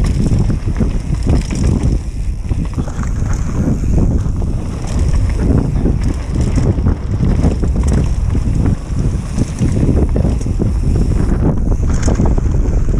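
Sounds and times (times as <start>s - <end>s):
bike knocking and rattling: 0.0s - 12.9s
tyres rumbling on dirt trail: 0.0s - 12.9s
wind buffeting microphone: 0.0s - 12.9s.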